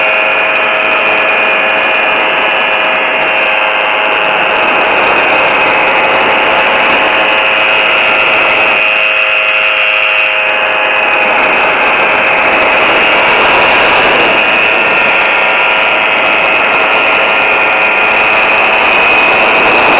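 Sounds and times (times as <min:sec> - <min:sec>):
aircraft engine droning: 0:00.0 - 0:19.9
wind rushing on microphone: 0:00.0 - 0:19.9.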